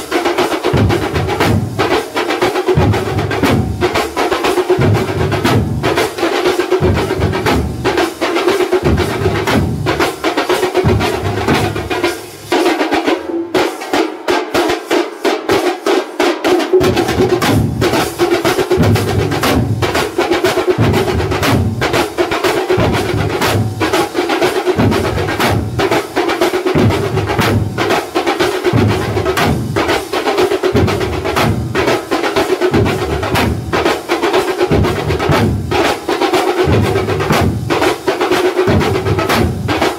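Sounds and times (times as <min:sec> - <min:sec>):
drums beaten with sticks: 0:00.0 - 0:39.9.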